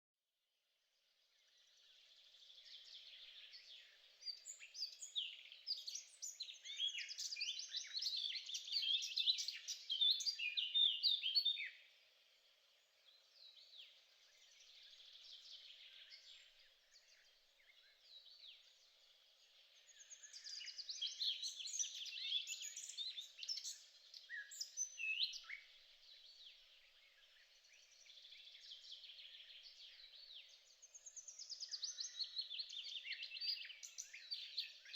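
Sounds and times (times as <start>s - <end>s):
songbirds chirping and twittering: 0.7s - 34.9s.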